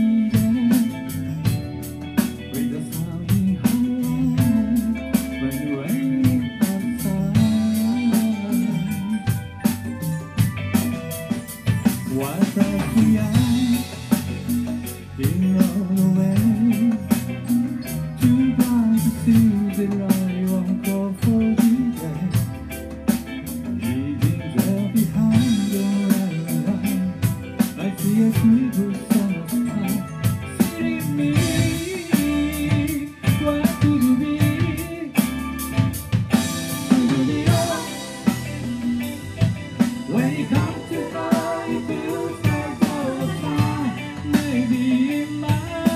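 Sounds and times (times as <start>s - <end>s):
drums struck steadily: 0.0s - 45.9s
live rock band playing: 0.0s - 45.9s.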